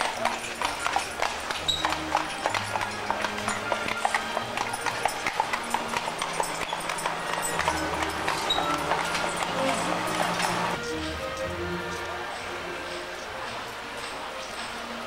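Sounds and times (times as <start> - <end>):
hooves clip-clopping on pavement: 0.0 - 15.0.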